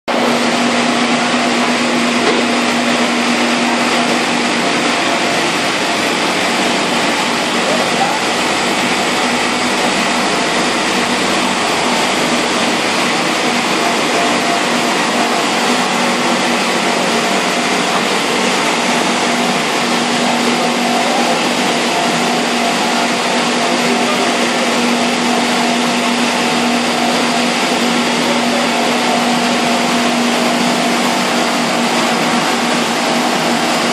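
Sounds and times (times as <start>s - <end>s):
steady machine hum: 0.1s - 33.9s
water churning and bubbling: 0.1s - 33.9s.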